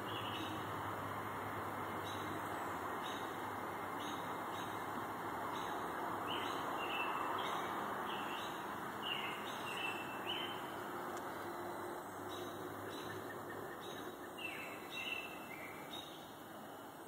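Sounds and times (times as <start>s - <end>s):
songbird chirping: 0.0s - 1.0s, 1.8s - 17.0s
outdoor background hiss: 0.0s - 17.0s.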